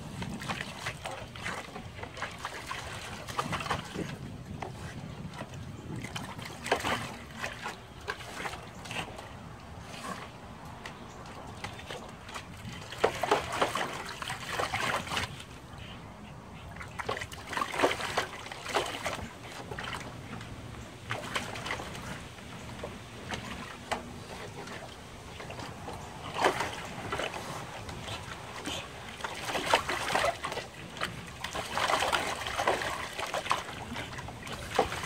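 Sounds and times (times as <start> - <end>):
dog splashing water in a tub: 0.0 - 35.0.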